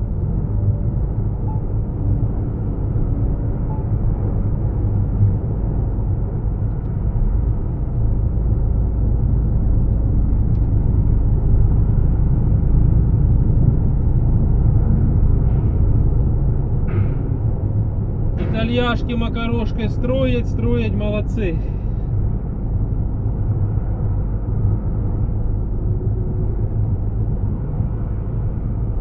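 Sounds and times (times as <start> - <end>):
vehicle road rumble from inside: 0.0 - 29.0.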